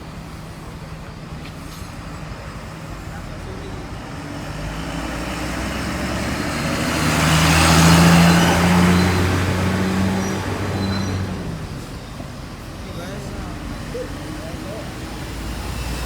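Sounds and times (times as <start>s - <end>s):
bus diesel engine: 0.0s - 16.0s
road noise: 0.0s - 16.0s.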